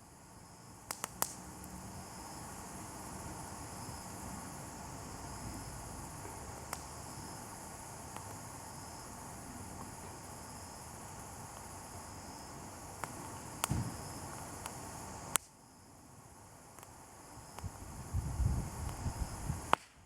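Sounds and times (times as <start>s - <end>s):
crickets chirring: 0.0s - 20.0s
low hiss: 0.0s - 20.0s.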